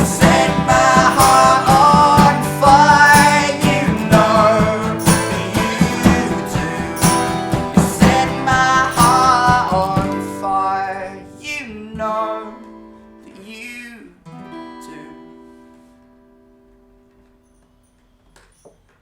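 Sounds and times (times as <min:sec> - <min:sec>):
strummed acoustic guitar: 0:00.0 - 0:18.3.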